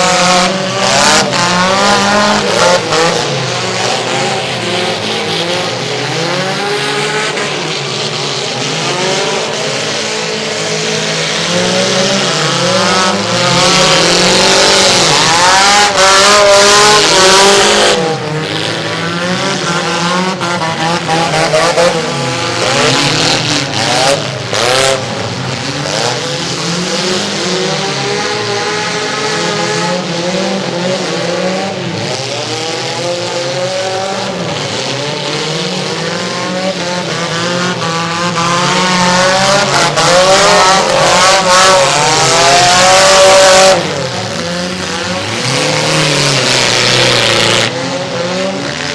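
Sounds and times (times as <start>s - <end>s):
mini car engines revving: 0.0s - 48.9s.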